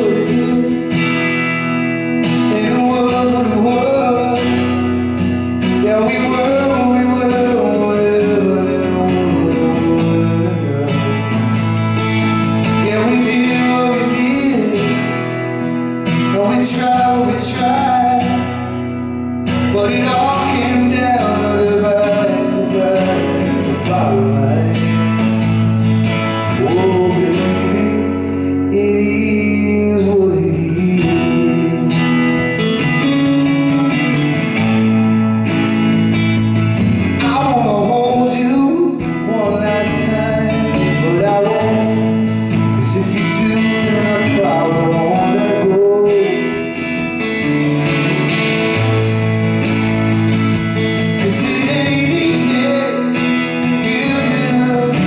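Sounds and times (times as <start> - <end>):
man singing: 0.0 - 34.8, 36.9 - 49.0, 51.0 - 55.0
strummed guitars: 0.0 - 55.0.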